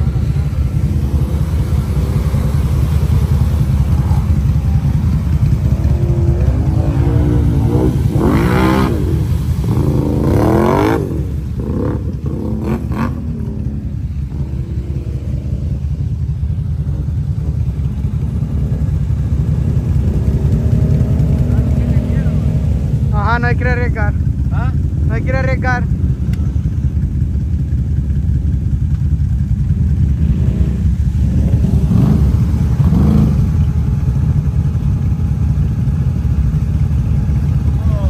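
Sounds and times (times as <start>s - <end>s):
engine revving: 0.0s - 27.0s, 29.6s - 35.2s
atv engines rumbling: 0.0s - 38.0s.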